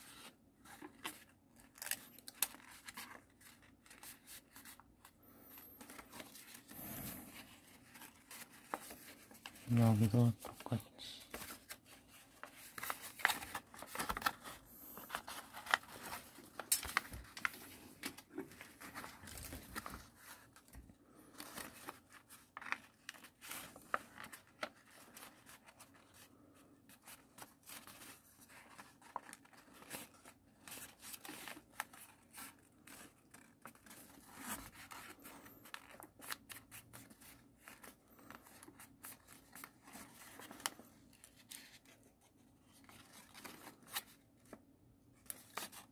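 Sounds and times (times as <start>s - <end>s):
paper crackling and rustling: 0.0s - 45.9s.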